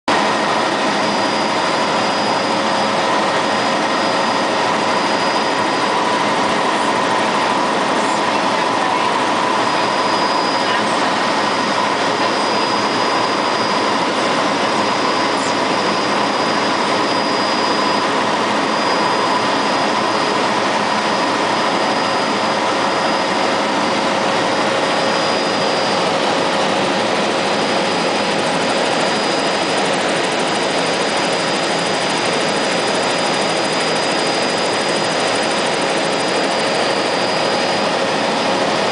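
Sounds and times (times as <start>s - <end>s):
constant whining tones: 0.1s - 38.9s
helicopter engine and rotor noise: 0.1s - 38.9s.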